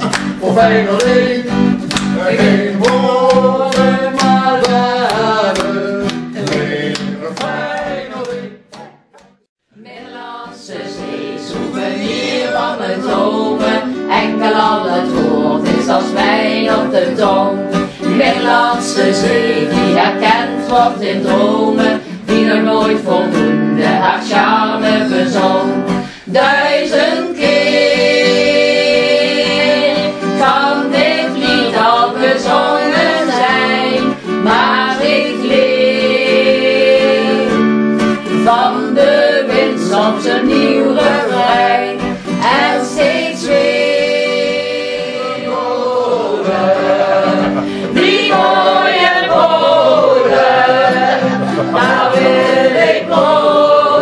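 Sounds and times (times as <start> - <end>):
person singing: 0.0 - 8.9, 9.7 - 37.6, 38.3 - 54.0
strummed acoustic guitar: 0.0 - 54.0.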